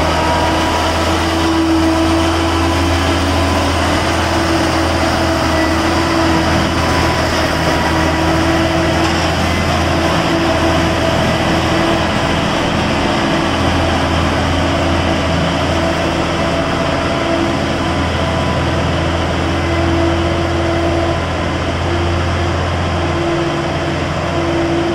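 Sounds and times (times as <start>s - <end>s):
heavy engine droning: 0.0s - 24.9s.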